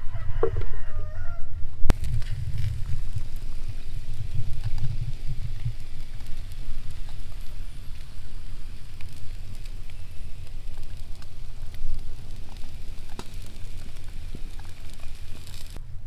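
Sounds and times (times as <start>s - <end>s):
constant low rumble: 0.0s - 16.0s
embers crackling and popping: 1.7s - 15.8s
steady hiss: 1.9s - 16.0s.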